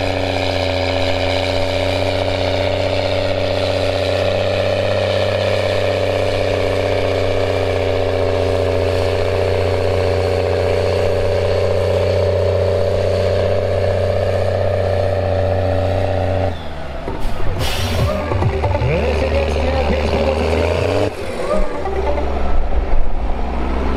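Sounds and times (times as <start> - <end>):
diesel engine running hard: 0.0 - 23.9.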